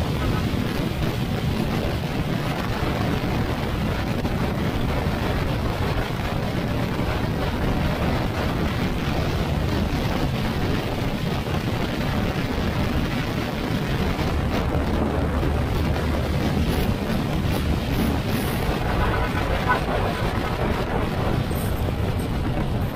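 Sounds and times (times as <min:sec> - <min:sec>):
scooter engine and road noise: 0:00.0 - 0:22.9
wind rushing over microphone: 0:00.0 - 0:22.9.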